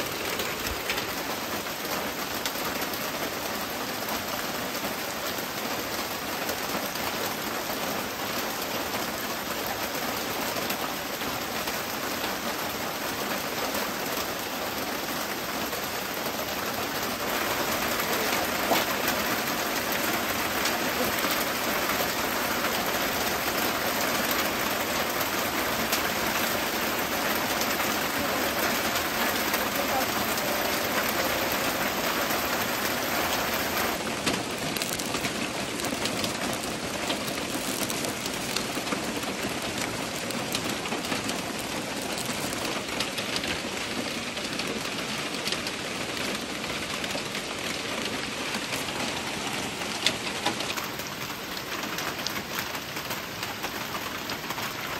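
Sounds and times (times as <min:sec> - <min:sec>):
steady rain patter: 0:00.0 - 0:54.9.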